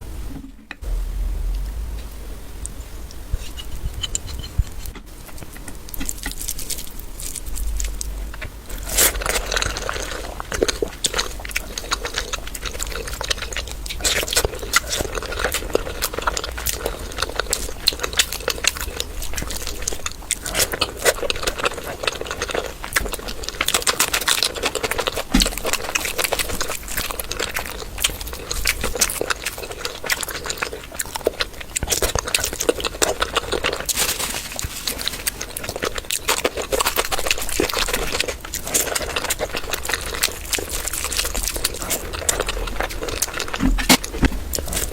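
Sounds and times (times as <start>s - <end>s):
chewing and mouth smacking: 2.6s - 44.9s.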